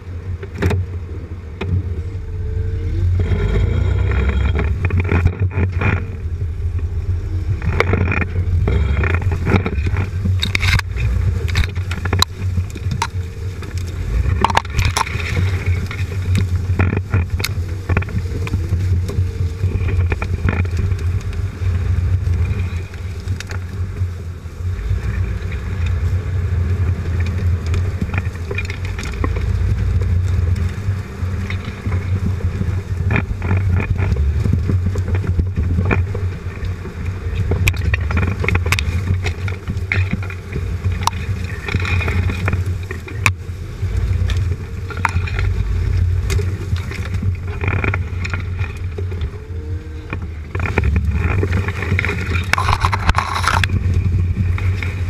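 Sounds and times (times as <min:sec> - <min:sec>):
engine and drivetrain rumble: 0:00.0 - 0:55.0
knocks and scrapes underneath vehicle: 0:00.0 - 0:55.0.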